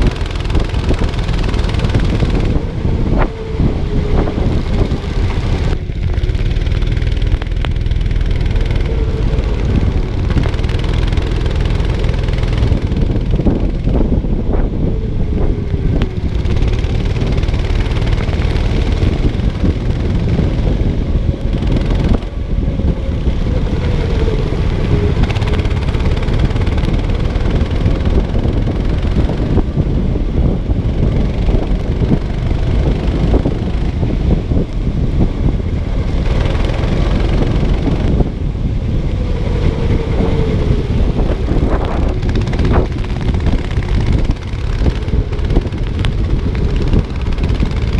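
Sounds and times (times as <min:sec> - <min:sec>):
go-kart engine running: 0:00.0 - 0:47.9
steady rush of noise: 0:00.0 - 0:47.9.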